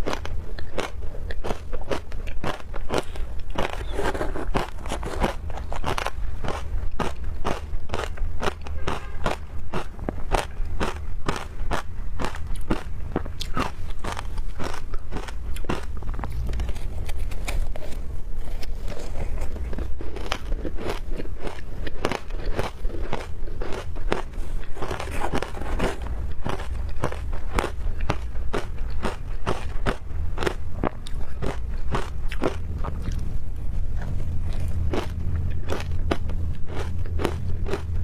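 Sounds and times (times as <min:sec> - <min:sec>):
person crunching ice: 0:00.0 - 0:33.2, 0:34.6 - 0:38.0.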